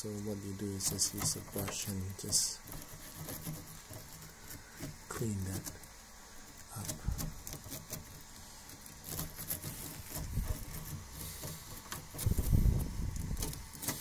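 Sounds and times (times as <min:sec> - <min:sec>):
wire brush scrubbing metal: 0:00.0 - 0:14.0
handling noise: 0:00.6 - 0:14.0.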